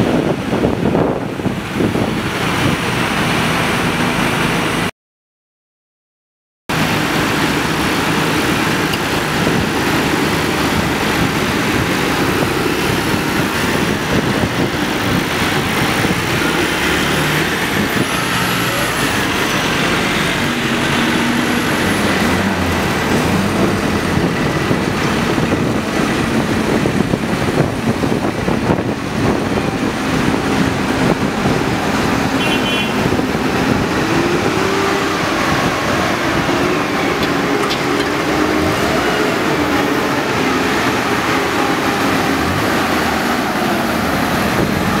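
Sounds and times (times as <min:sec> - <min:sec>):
tractor diesel engines passing: 0:00.0 - 0:04.9, 0:06.7 - 0:45.0.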